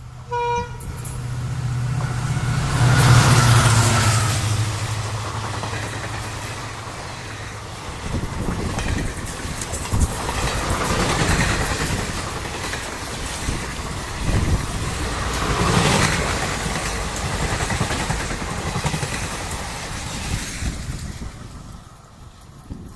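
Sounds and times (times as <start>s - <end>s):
train passing at speed: 0.0s - 22.9s.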